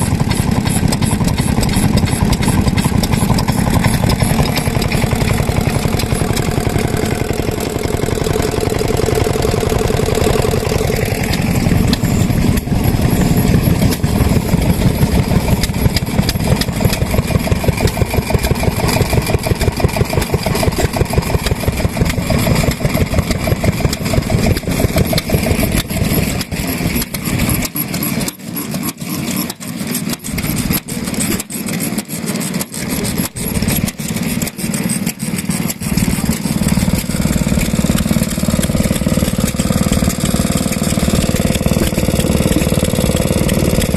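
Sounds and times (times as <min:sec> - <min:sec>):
slow engine firing beats: 0:00.0 - 0:43.9
stationary engines chugging: 0:00.0 - 0:43.9.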